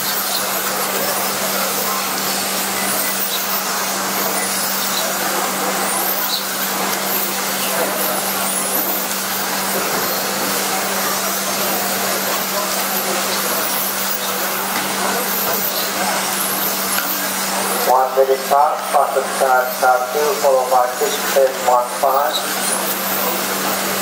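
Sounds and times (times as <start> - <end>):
high-pitched motor whines: 0.0 - 24.0
rc cars motor and tyre noise: 0.0 - 24.0.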